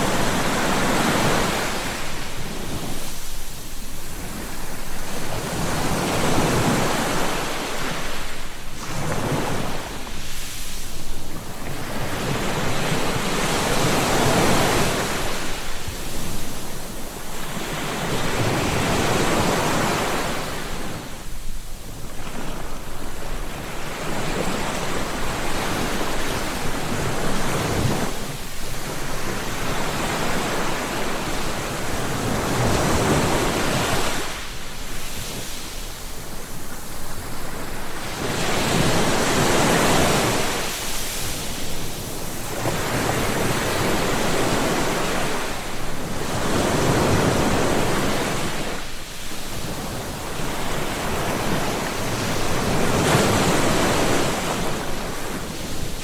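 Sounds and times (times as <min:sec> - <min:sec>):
sea waves breaking on shore: 0:00.0 - 0:56.0
wind noise: 0:00.0 - 0:56.0.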